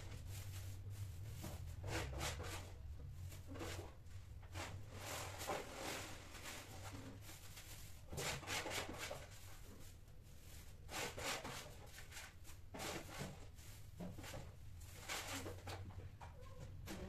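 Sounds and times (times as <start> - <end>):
cats scuffing on tiled floor: 0.0 - 17.0.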